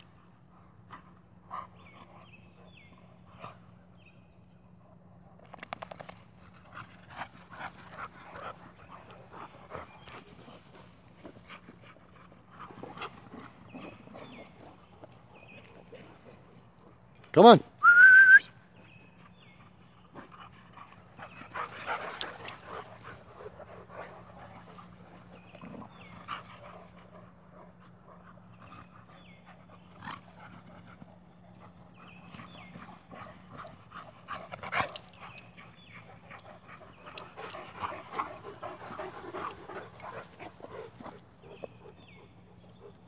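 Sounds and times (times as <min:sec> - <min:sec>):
dogs panting: 0:00.1 - 0:17.3, 0:18.6 - 0:43.0.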